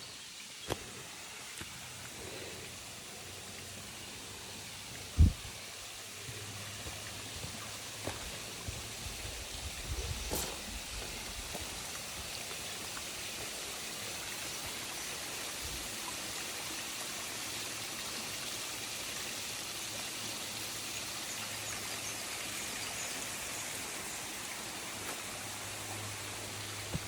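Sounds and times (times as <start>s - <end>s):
running water rushing: 0.4s - 27.0s.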